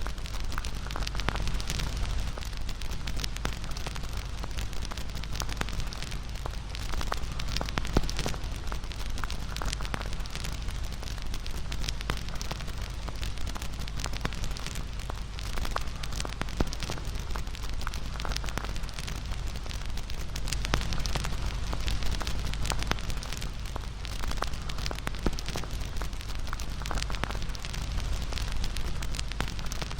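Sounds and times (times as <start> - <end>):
low rush of flames: 0.0 - 29.9
sharp pops of fire: 0.0 - 29.9
wood fire crackling: 0.0 - 29.9.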